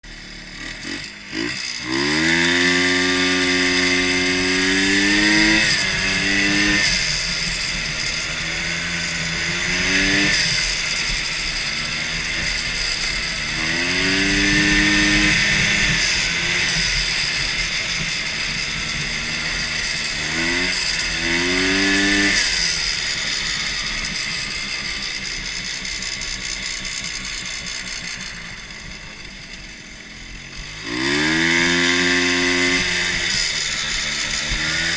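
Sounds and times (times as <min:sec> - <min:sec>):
lawn mower engine revving: 0:00.0 - 0:34.9.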